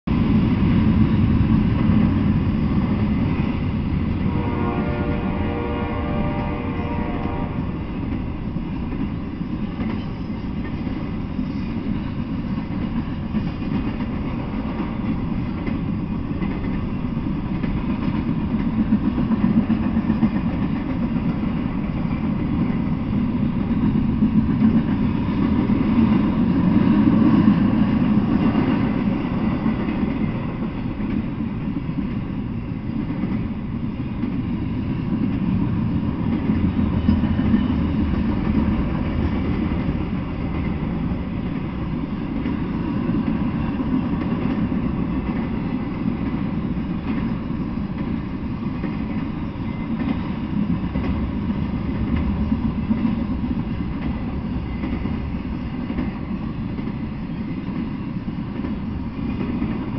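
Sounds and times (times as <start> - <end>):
freight train cars rolling: 0.1 - 59.9.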